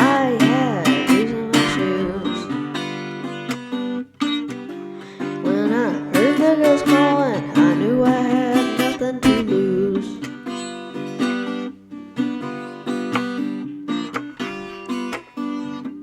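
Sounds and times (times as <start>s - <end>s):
blues acoustic guitar: 0.0s - 16.0s.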